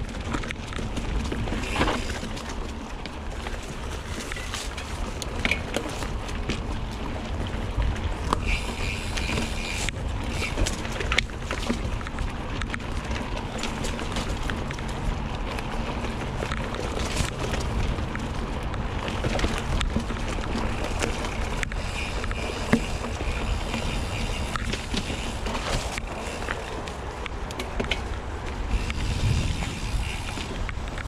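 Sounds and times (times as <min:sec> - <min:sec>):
bike frame rattling: 0:00.0 - 0:31.0
wind rumble on microphone: 0:00.0 - 0:31.0.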